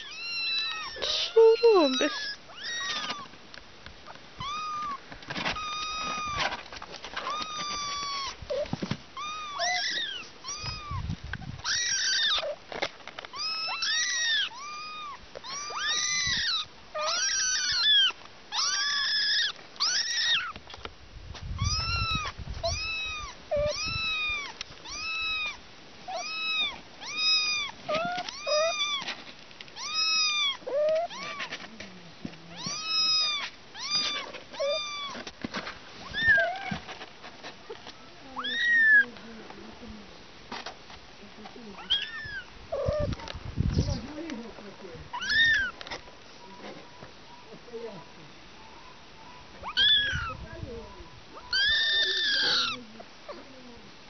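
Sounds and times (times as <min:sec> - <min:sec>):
kittens mewing: 0:00.0 - 0:03.3, 0:04.1 - 0:06.6, 0:07.2 - 0:12.6, 0:13.3 - 0:20.6, 0:21.6 - 0:29.2, 0:29.8 - 0:31.8, 0:32.5 - 0:35.3, 0:36.0 - 0:36.9, 0:37.6 - 0:39.1, 0:41.7 - 0:44.4, 0:45.1 - 0:46.6, 0:47.5 - 0:53.8.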